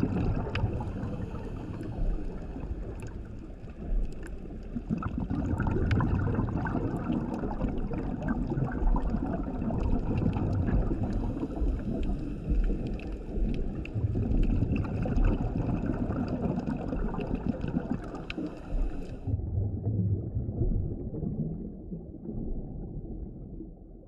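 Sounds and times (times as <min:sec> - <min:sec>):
underwater water rumble: 0:00.0 - 0:24.0.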